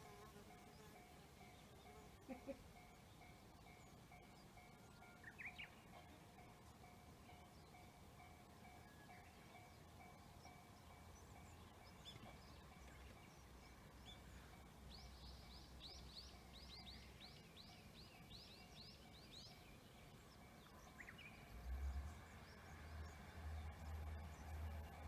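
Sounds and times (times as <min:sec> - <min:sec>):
bird chirps: 0:00.6 - 0:24.8.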